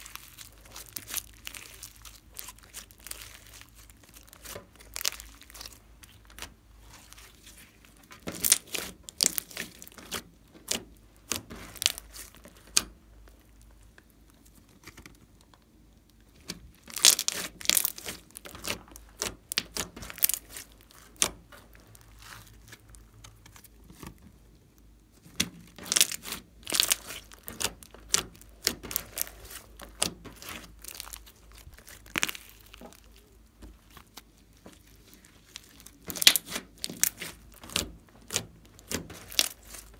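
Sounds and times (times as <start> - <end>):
slime crackling and clicking: 0.0 - 7.4, 8.0 - 24.1, 25.2 - 39.9.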